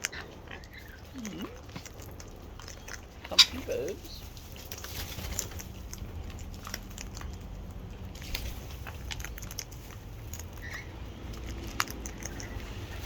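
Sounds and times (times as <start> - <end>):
parrots crunching seed: 0.0 - 13.0
steady low rumble: 0.0 - 13.0.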